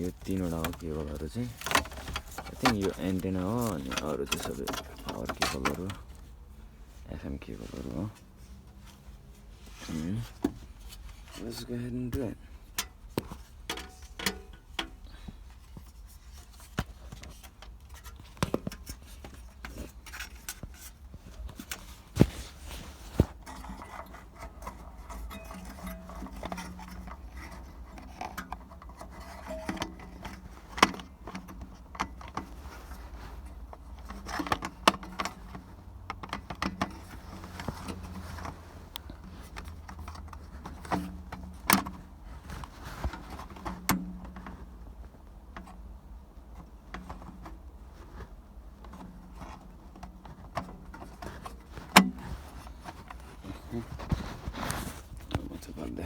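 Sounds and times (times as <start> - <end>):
clicks and rattles of wiring work: 0.0 - 6.4, 9.8 - 56.0.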